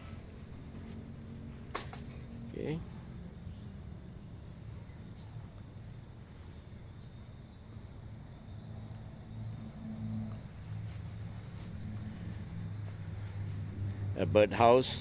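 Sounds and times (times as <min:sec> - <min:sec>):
faint high-pitched insect: 0:00.0 - 0:15.0
faint low rumble: 0:00.0 - 0:15.0.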